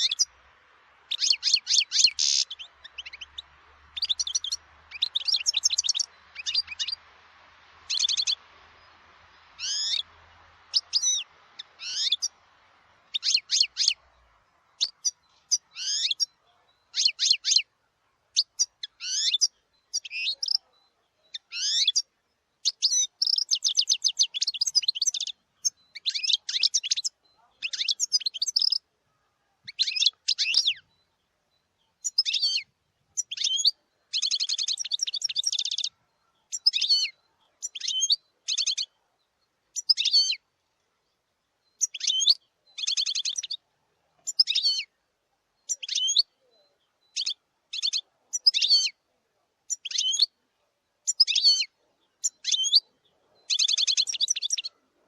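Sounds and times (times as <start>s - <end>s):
goldfinch twittering and trilling: 0.0s - 0.4s, 1.1s - 7.2s, 7.8s - 12.4s, 13.1s - 17.7s, 18.3s - 28.8s, 29.6s - 40.5s, 41.6s - 43.6s, 44.2s - 44.9s, 45.6s - 49.0s, 49.7s - 50.4s, 51.0s - 54.8s.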